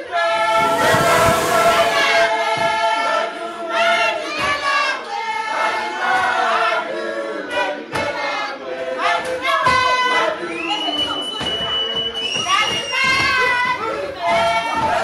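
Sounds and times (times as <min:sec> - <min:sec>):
choir singing in harmony: 0:00.0 - 0:10.7, 0:13.5 - 0:15.0.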